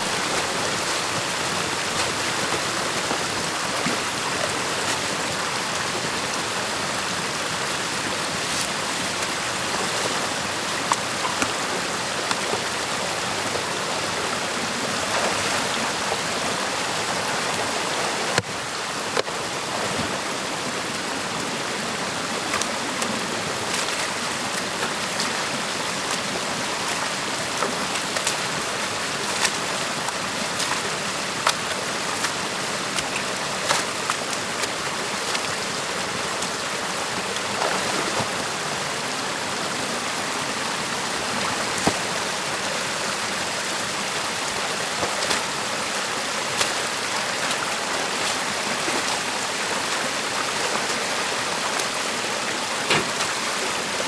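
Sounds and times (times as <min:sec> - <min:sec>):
stream water rushing and splashing: 0:00.0 - 0:54.0.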